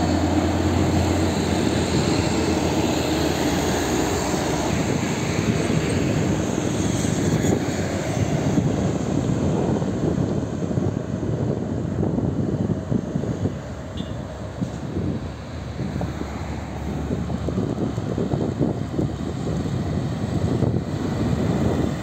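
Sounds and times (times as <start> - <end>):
trucks engine rumble: 0.0 - 22.0.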